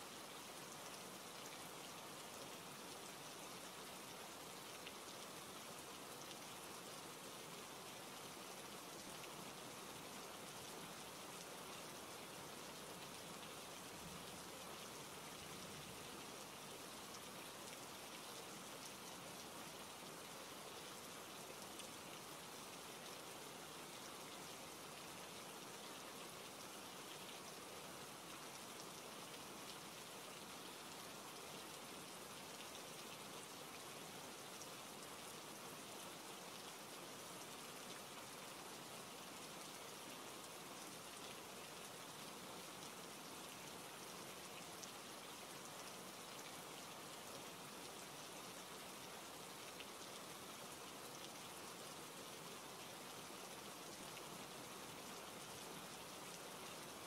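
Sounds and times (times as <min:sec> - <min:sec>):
soft steady rain: 0:00.0 - 0:57.0.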